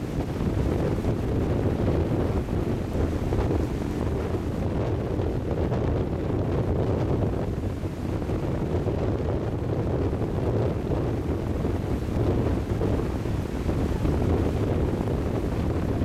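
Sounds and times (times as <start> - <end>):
small waves washing on shore: 0.0 - 16.0
wind buffeting microphone: 0.0 - 16.0.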